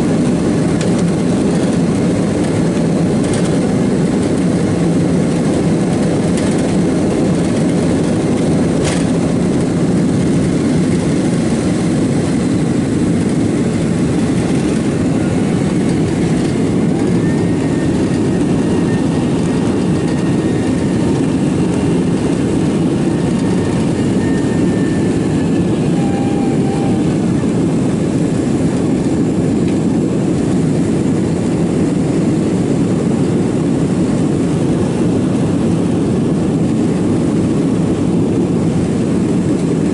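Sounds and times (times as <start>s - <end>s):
jet engines roaring in cabin: 0.0s - 39.9s.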